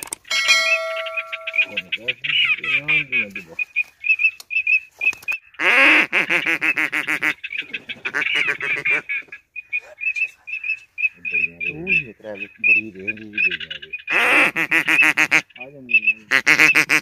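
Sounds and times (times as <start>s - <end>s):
ducks quacking: 0.5s - 4.8s, 5.4s - 17.0s.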